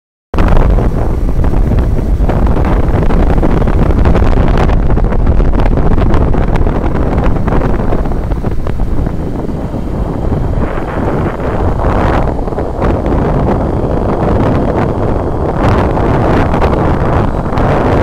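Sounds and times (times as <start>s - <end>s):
wind buffeting microphone: 0.4s - 18.0s.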